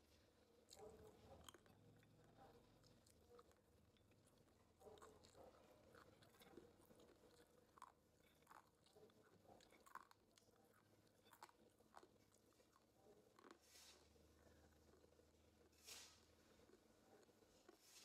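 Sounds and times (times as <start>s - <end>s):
chewing crunchy nuts: 0.4s - 18.0s.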